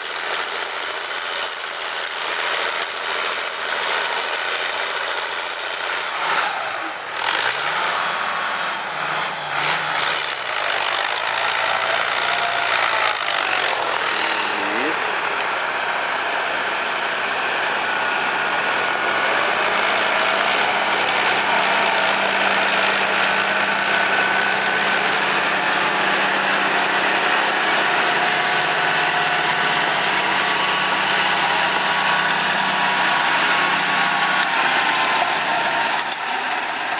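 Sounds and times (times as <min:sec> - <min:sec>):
tractor diesel engines running: 0:00.0 - 0:36.9.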